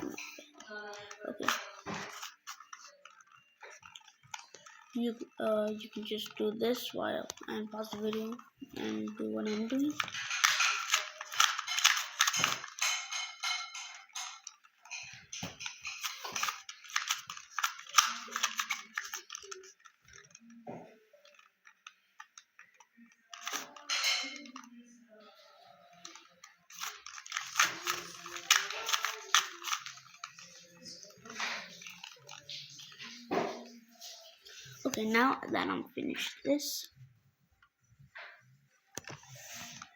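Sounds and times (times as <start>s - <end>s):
puzzle cube plastic clicking: 0.0s - 24.8s, 25.9s - 35.2s.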